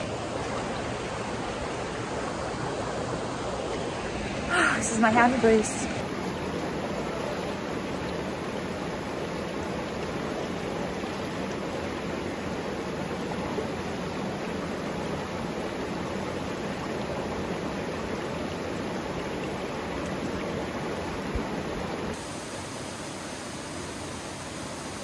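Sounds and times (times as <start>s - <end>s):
creek and small waterfall rushing: 0.0s - 25.0s.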